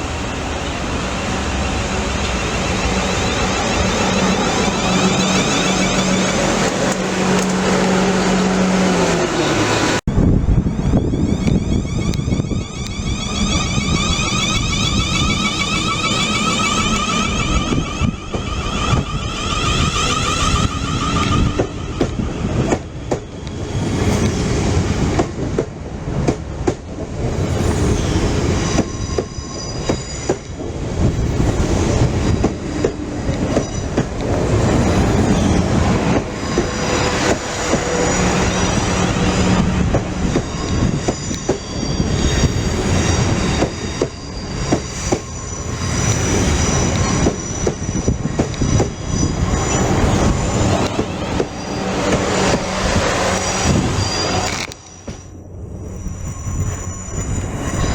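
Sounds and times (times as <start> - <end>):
high squeal from train wheels: 0.0 - 25.6, 26.9 - 57.9.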